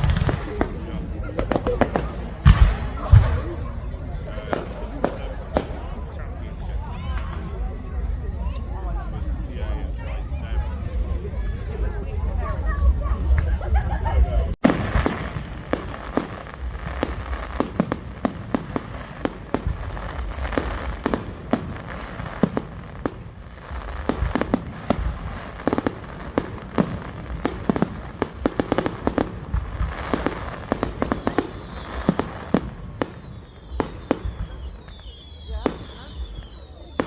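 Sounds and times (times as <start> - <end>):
fireworks bangs: 0.0 - 8.7, 14.6 - 37.0
fireworks crackling: 0.0 - 37.0.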